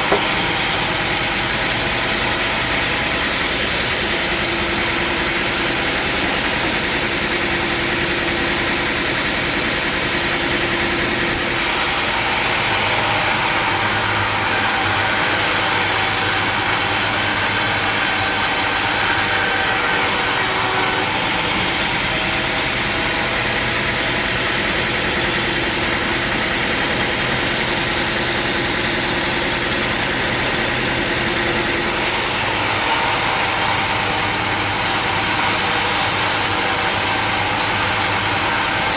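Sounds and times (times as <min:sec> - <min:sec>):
sawmill machinery droning: 0:00.0 - 0:38.9.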